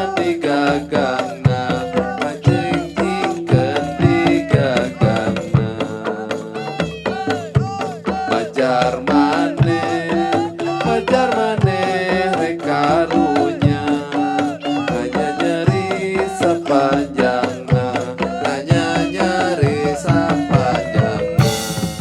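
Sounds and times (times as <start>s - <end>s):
drums struck quickly: 0.0s - 22.0s.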